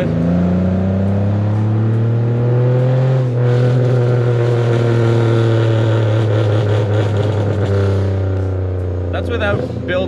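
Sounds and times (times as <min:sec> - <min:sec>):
car exhaust drone under load: 0:00.0 - 0:10.0.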